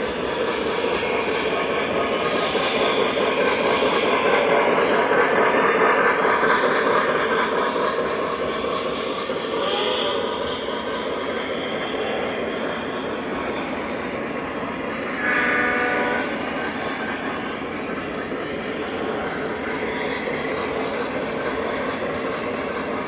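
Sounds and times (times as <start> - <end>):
model train rumbling on track: 0.0 - 23.0.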